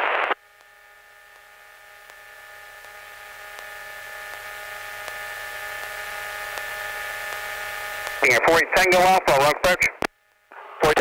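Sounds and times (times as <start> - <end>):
radio hiss and electronic hum: 0.0 - 11.0.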